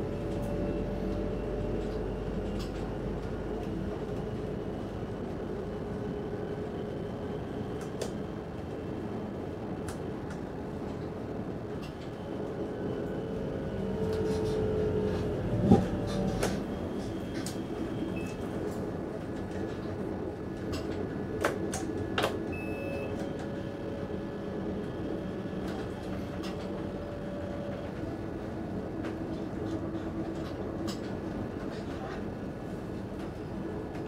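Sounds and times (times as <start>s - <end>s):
train rumbling with humming drone: 0.0s - 34.0s.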